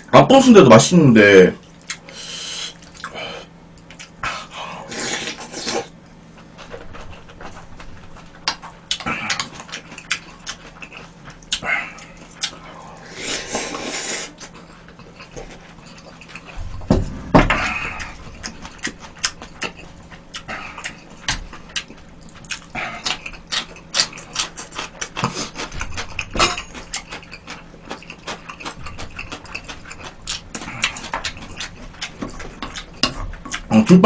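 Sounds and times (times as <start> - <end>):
chewing and lip-smacking: 1.6 - 2.1, 2.7 - 4.3, 5.1 - 16.9, 17.6 - 33.8.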